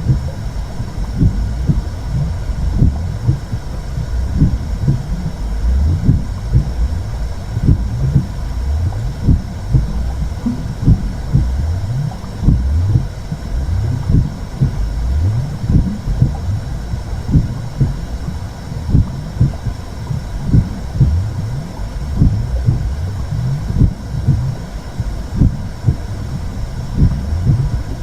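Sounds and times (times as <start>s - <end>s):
heartbeat-like thumps: 0.0s - 28.0s
low muffled whooshing rumble: 0.0s - 28.0s.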